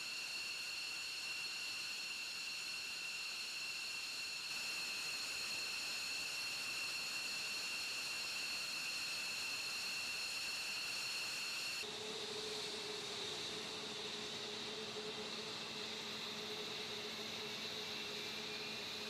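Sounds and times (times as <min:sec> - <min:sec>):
jet engines idling whine: 0:00.0 - 0:19.0.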